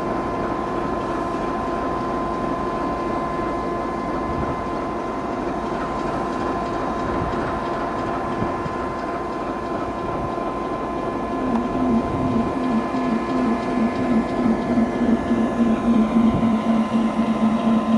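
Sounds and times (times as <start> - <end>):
diesel train engine drone: 0.0 - 17.9.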